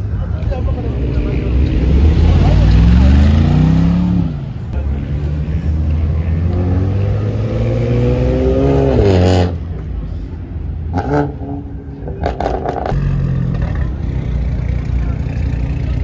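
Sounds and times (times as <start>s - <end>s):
car engine revving: 0.0s - 10.0s, 10.8s - 16.0s.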